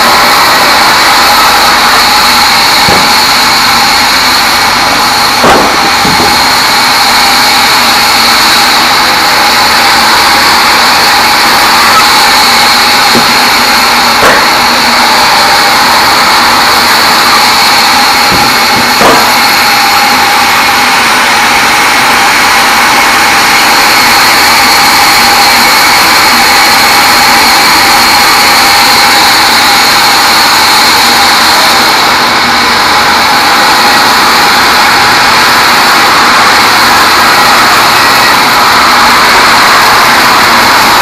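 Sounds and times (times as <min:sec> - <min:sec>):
band sawmill sawing log: 0:00.0 - 0:41.0.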